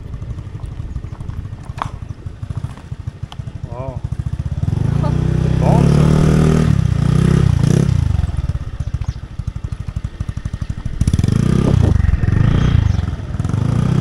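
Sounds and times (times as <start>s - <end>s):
small motorcycle engine running: 0.0s - 14.0s.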